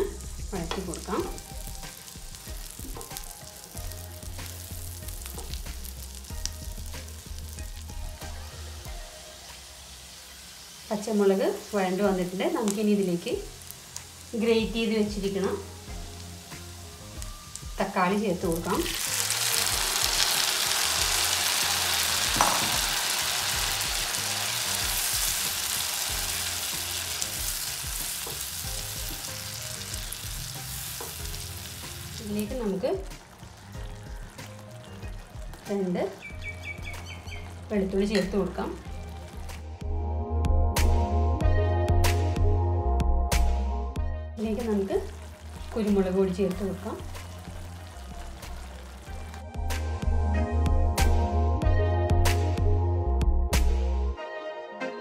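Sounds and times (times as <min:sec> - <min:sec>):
chillies sizzling in a frying pan: 0:00.0 - 0:39.7, 0:44.4 - 0:49.8.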